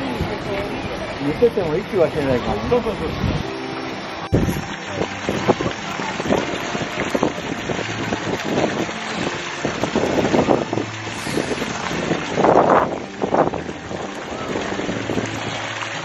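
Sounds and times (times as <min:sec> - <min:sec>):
wind buffeting microphone: 0:00.0 - 0:03.6, 0:04.2 - 0:16.0.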